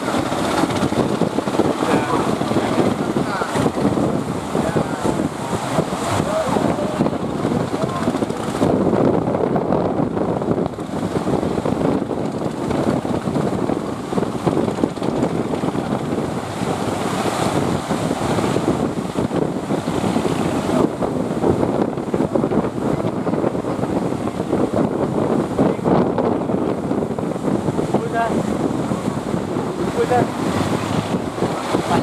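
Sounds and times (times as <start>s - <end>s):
sea waves breaking: 0.0s - 32.0s
wind buffeting microphone: 0.0s - 32.0s.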